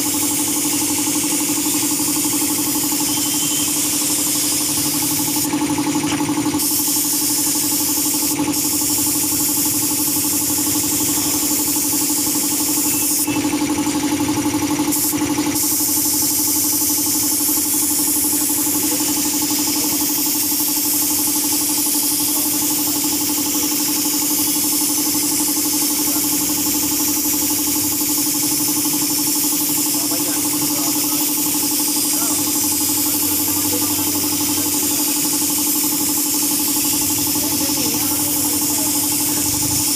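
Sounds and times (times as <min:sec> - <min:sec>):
air compressor droning: 0:00.0 - 0:39.9
paint spray gun hissing: 0:00.0 - 0:39.9.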